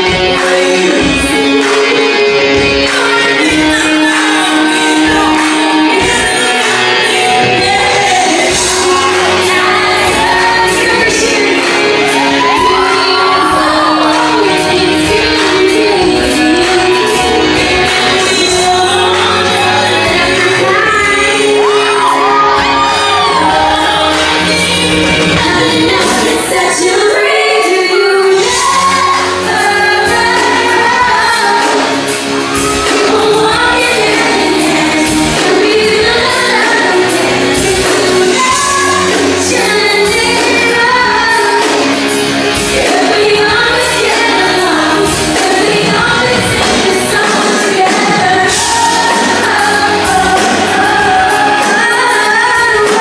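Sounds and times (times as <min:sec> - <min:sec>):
live band playing pop: 0:00.0 - 0:53.0
person singing: 0:00.0 - 0:53.0.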